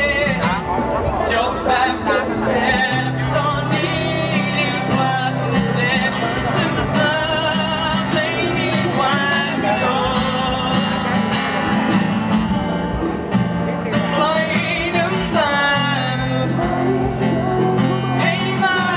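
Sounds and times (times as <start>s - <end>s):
man singing a ballad: 0.0s - 11.3s, 14.1s - 18.9s
acoustic guitar strumming: 0.0s - 18.9s.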